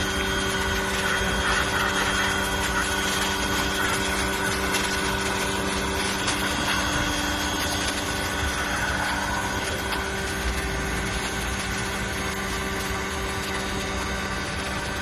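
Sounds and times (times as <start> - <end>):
pressure washer motor humming: 0.0 - 15.0.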